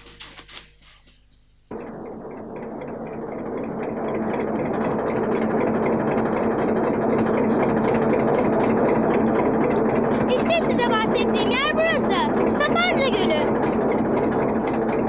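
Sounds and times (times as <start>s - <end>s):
heavy boat engine droning: 1.7s - 15.0s.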